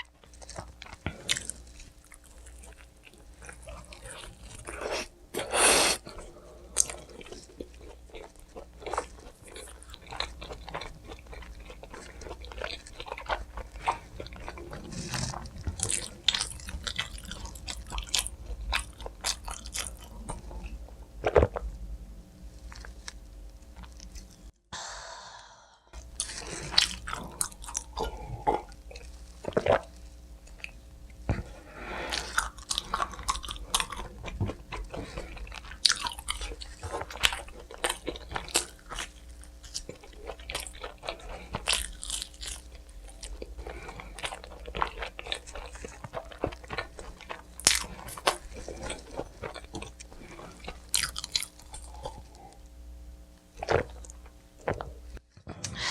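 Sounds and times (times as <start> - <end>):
wet chewing: 0.0 - 21.7, 26.0 - 52.7, 53.6 - 55.2
crunchy bites of pizza: 0.3 - 21.7, 26.0 - 52.7, 53.4 - 55.6.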